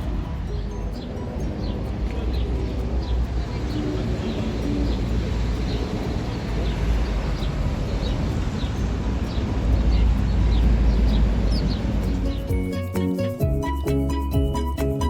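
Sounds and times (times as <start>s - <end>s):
music with tinkling notes: 0.0s - 15.0s
small bird chirping: 0.0s - 15.0s
steady low rumble: 0.0s - 15.0s.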